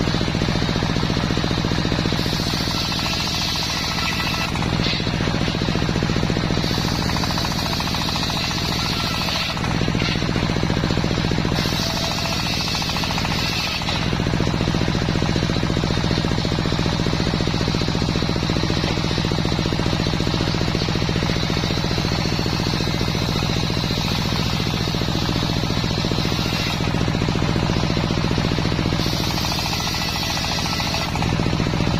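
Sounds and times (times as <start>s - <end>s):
saw blade cutting log: 0.0s - 31.9s
sawmill engine beating: 0.0s - 31.9s.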